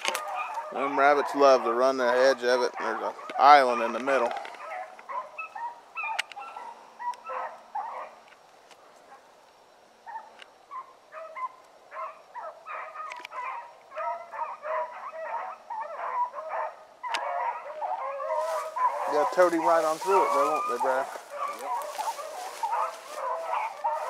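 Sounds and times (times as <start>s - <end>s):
dogs baying: 0.0s - 8.2s, 10.0s - 24.0s.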